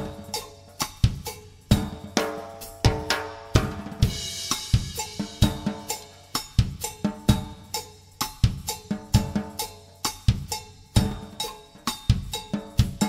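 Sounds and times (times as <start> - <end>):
drum kit playing cha-cha groove: 0.0 - 13.0.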